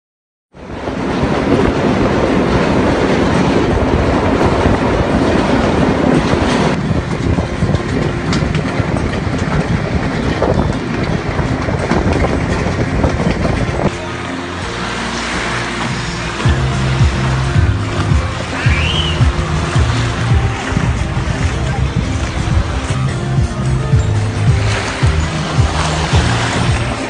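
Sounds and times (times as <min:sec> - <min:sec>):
train rumble inside carriage: 0:00.6 - 0:27.0
wheels clattering over rail joints: 0:00.6 - 0:27.0.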